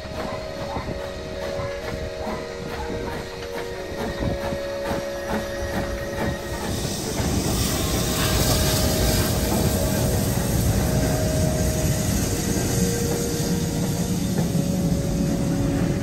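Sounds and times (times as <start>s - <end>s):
steam hiss and rumble: 0.0s - 16.0s
steam locomotive knocking beat: 0.0s - 16.0s.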